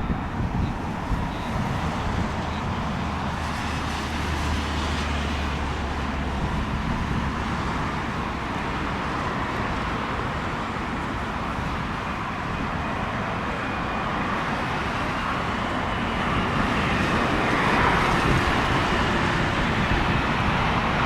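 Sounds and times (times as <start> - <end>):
jet airliner engines rumbling: 0.0 - 21.0.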